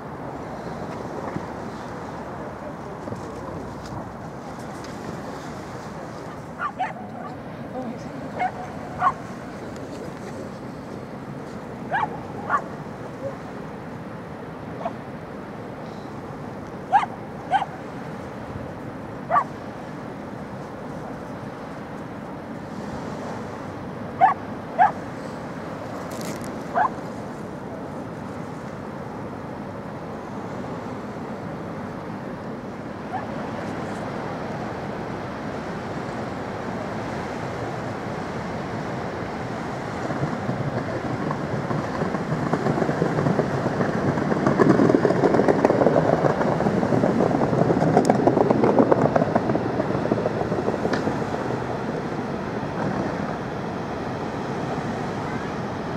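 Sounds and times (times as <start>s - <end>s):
bow wash along hull: 0.0s - 55.9s
ship engine noise: 0.0s - 55.9s.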